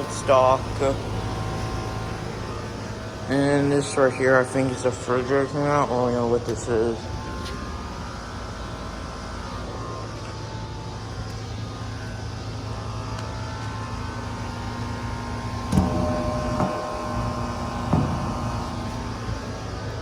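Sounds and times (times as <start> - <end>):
condensing unit hum: 0.0 - 20.0
steady tones: 0.0 - 20.0.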